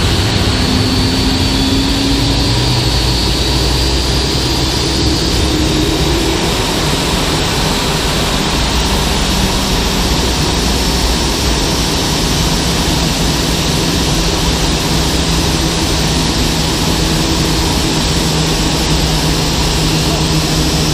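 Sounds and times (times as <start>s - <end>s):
jet engine rushing: 0.0s - 20.9s
low hum: 0.0s - 20.9s.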